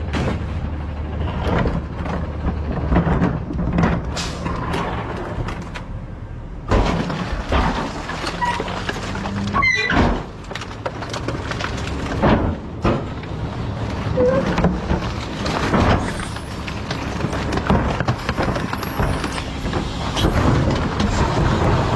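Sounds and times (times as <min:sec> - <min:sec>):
knocks and clatter: 0:00.0 - 0:05.9, 0:06.6 - 0:21.9
garbage truck engine humming: 0:00.0 - 0:21.9.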